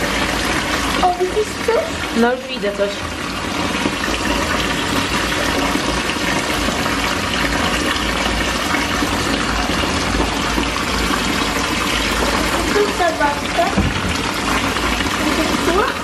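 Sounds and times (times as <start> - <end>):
tap water filling bathtub: 0.0 - 16.0.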